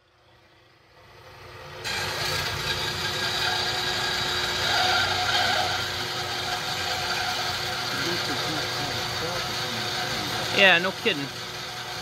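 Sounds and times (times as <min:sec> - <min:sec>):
band saw cutting metal: 0:01.8 - 0:12.0.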